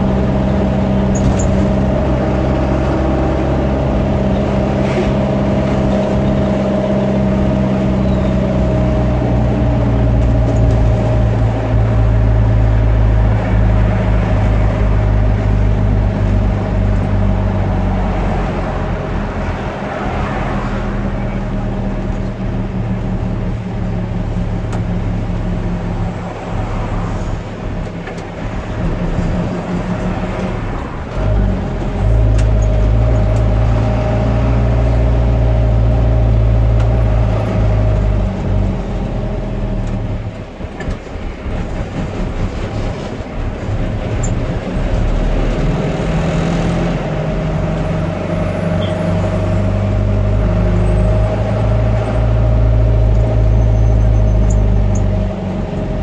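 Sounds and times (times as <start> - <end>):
car engine hum: 0.0 - 56.0.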